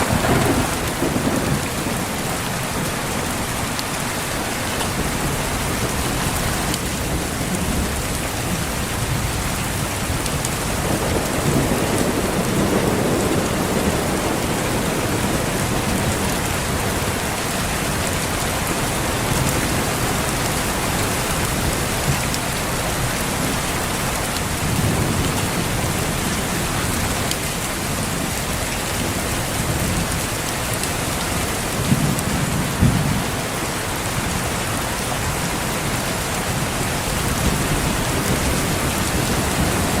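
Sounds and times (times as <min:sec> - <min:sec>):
thunder rumbling: 0:00.0 - 0:30.3, 0:31.3 - 0:40.0
heavy rain: 0:00.0 - 0:40.0.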